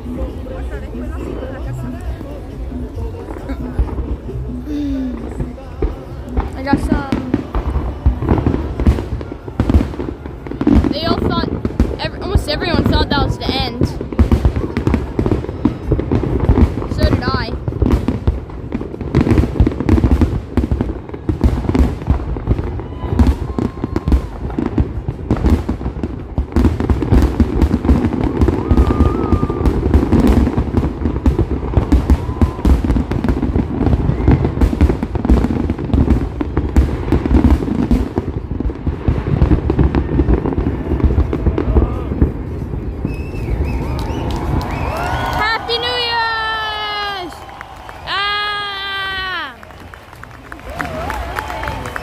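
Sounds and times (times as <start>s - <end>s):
fireworks bangs and booms: 0.0s - 52.0s.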